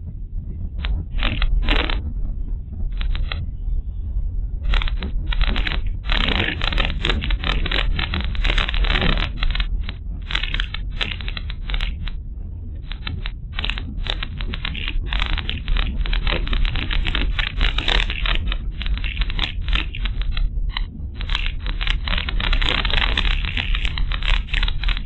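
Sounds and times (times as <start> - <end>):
crackling and scraping rattle: 0.0 - 25.0.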